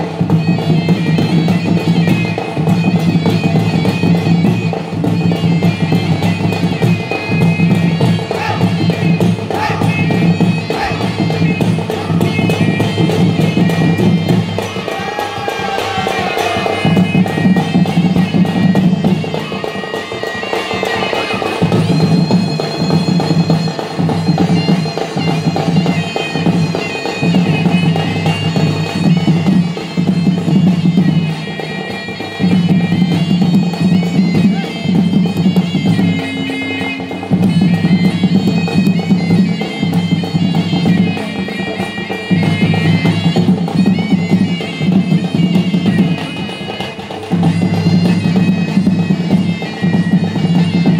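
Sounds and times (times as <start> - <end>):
dhol drums: 0.0 - 50.9
double-reed pipe melody: 0.0 - 50.9.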